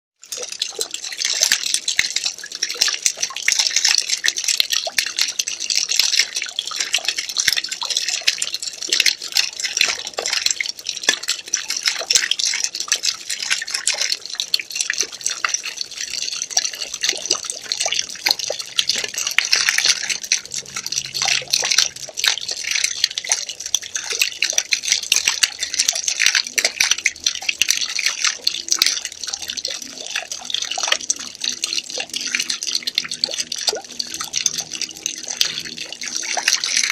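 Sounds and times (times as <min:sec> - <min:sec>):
water pouring: 0:00.2 - 0:36.9.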